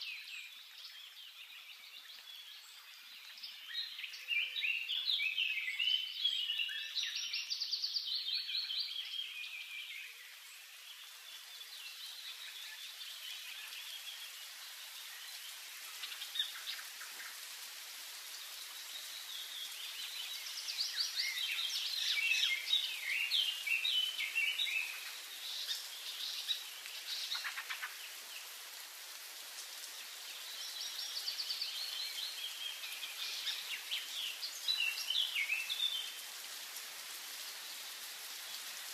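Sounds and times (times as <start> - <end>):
outdoor background hiss: 0.0 - 38.9.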